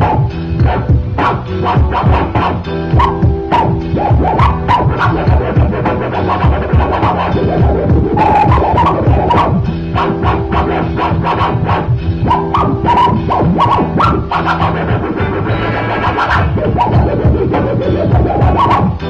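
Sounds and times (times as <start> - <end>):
electronic music with steady beat: 0.0 - 19.0
turntable scratching: 0.0 - 19.0.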